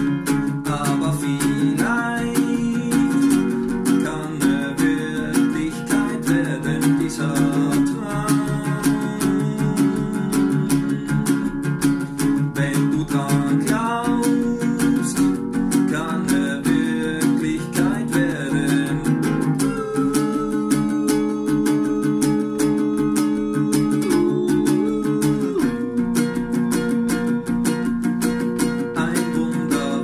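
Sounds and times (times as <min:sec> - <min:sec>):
nylon-string guitar strummed: 0:00.0 - 0:30.0.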